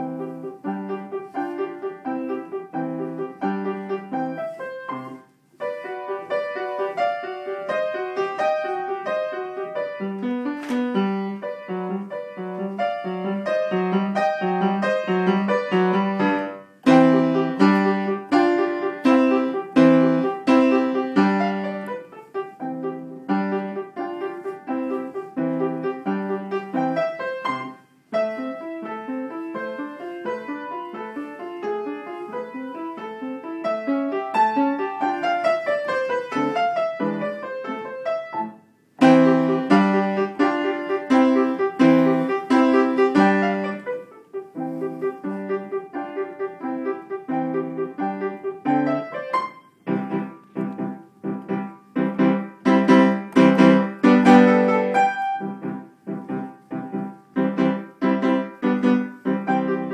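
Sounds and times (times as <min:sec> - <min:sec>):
upright piano playing: 0:00.0 - 0:59.9.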